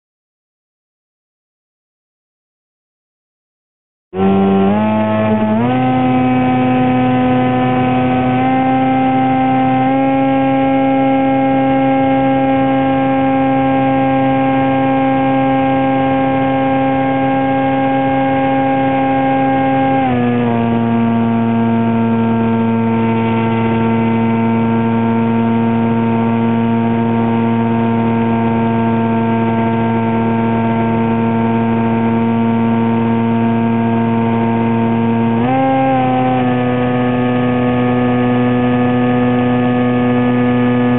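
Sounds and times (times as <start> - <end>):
model airplane motor and propeller: 4.2 - 40.9.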